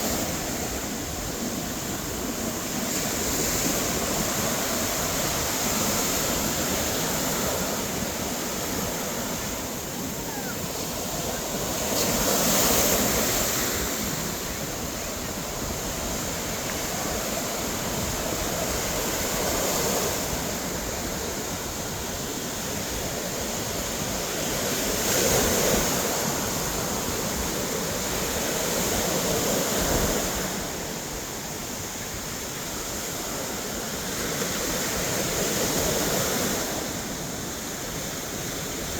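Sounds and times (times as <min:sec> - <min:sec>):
ocean waves breaking: 0:00.0 - 0:38.9
wind on microphone: 0:00.0 - 0:38.9.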